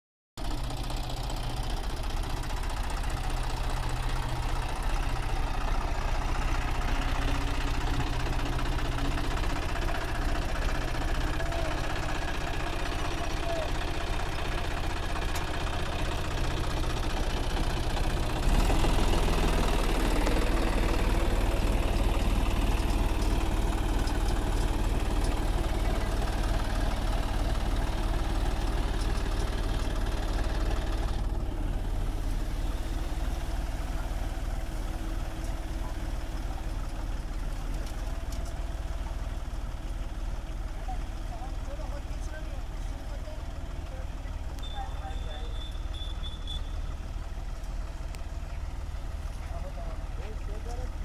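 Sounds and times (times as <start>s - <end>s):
tractor diesel engine running: 0.4s - 51.0s.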